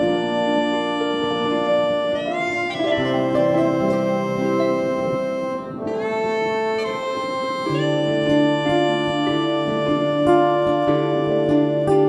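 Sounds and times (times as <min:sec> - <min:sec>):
held low note: 0:00.0 - 0:12.0
keyboard melody: 0:00.0 - 0:12.0.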